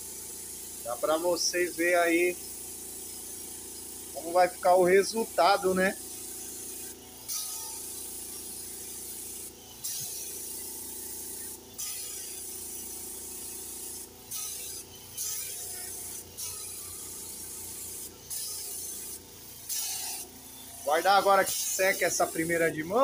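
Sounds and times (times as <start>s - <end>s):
paint spray gun hissing: 0.0s - 23.0s.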